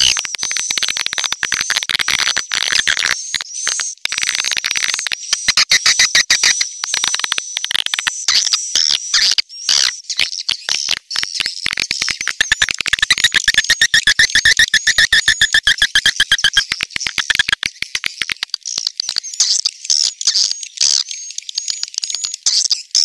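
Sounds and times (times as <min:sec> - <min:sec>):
swiftlet clicking and twittering: 0:00.0 - 0:22.8.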